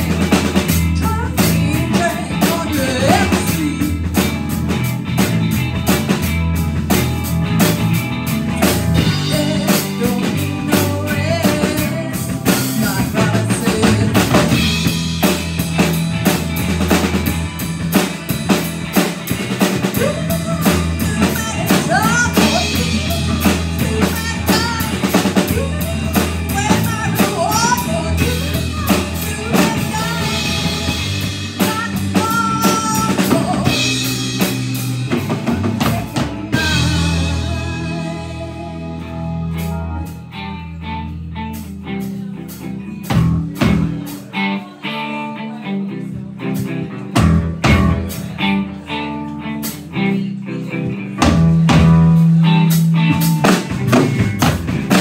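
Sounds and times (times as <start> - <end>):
drum kit beat: 0.0 - 44.4, 46.5 - 50.1, 51.1 - 55.0
electric bass: 0.0 - 55.0
electric guitar: 0.0 - 55.0.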